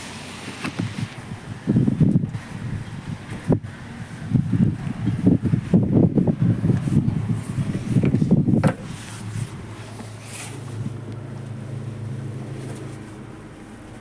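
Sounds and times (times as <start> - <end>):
vehicle engine idling: 0.0 - 14.0
wind buffeting microphone: 0.0 - 14.0.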